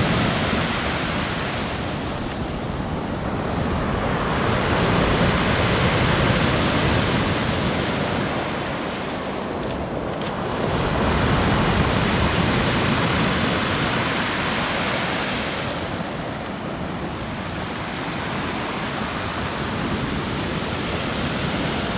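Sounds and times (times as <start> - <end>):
waves breaking on shore: 0.0 - 21.9
wind on microphone: 0.0 - 21.9.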